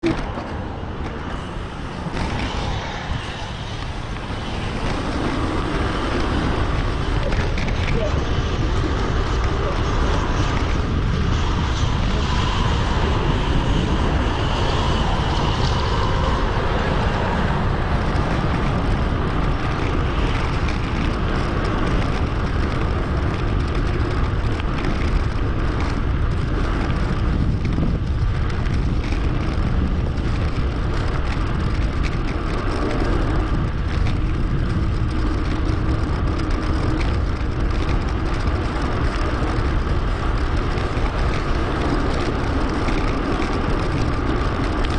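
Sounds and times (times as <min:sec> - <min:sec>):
road noise: 0:00.0 - 0:44.9
wind rushing on microphone: 0:00.0 - 0:44.9.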